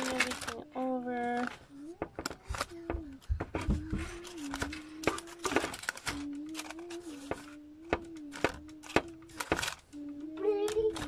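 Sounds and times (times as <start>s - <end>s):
parchment paper crinkling: 0.0s - 11.0s.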